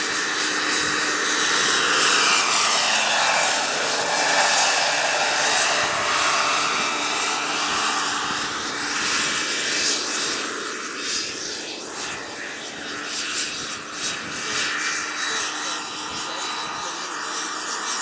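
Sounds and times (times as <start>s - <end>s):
gas turbine engine whine: 0.0s - 18.0s
helicopter rotor noise: 0.0s - 18.0s.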